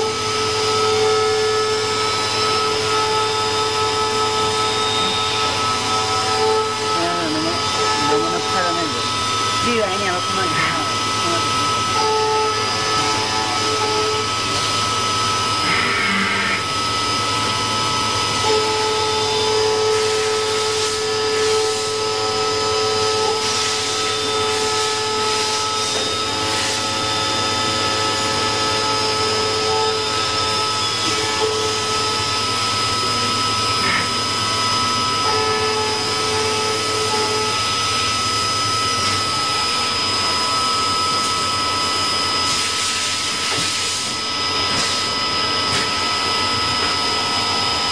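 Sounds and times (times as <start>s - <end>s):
cnc machine whine: 0.0s - 47.9s.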